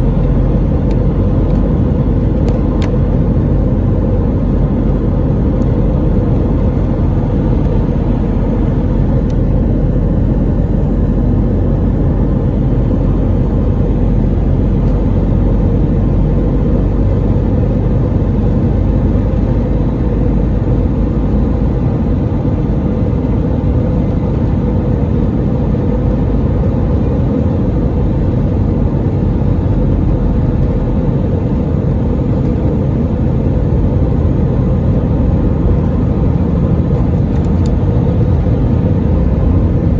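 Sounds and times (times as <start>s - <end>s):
jet airliner engines rumbling: 0.0s - 39.9s.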